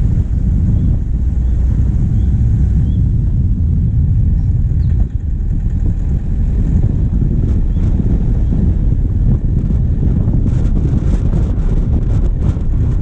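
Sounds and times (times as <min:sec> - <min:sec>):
diesel engine driving: 0:00.0 - 0:13.0
wind on microphone: 0:00.0 - 0:13.0.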